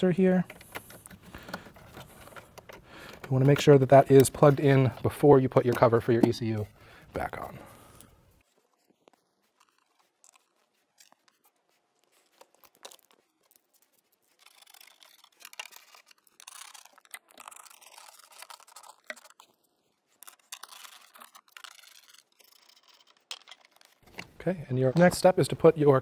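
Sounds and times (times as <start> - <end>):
plastic parts rustling and clicking: 0.0 - 25.5.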